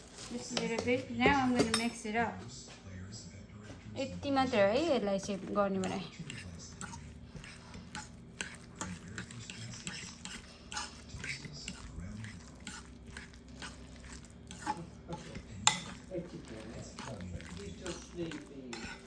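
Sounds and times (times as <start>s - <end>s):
steady low hum: 0.0s - 19.0s
utensil scraping a bowl: 3.6s - 19.0s.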